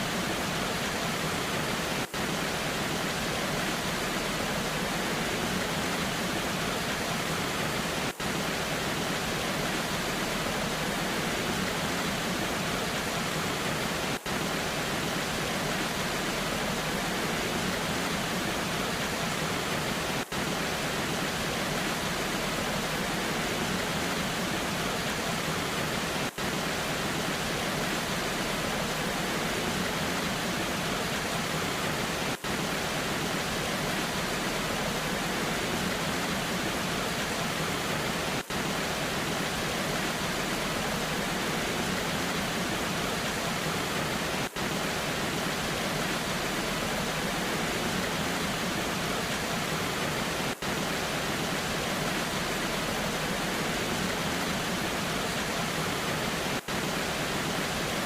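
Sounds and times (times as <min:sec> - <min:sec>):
rain: 0:00.0 - 0:58.0
waterfall rushing: 0:00.0 - 0:58.0.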